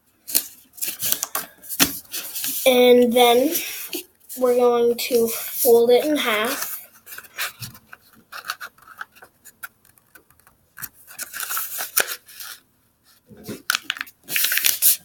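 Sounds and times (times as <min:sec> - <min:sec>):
paper crackling and rustling: 0:00.3 - 0:12.6, 0:13.3 - 0:15.0
paper fold rubbing: 0:00.3 - 0:15.0.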